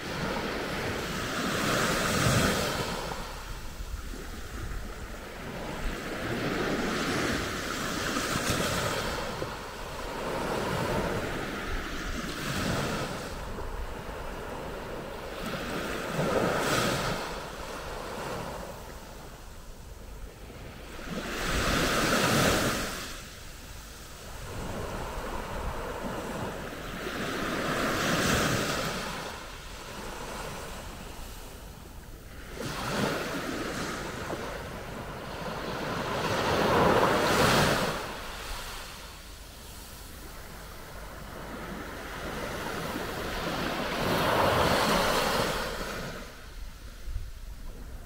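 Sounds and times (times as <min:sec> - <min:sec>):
small waves washing onto beach: 0:00.0 - 0:48.0.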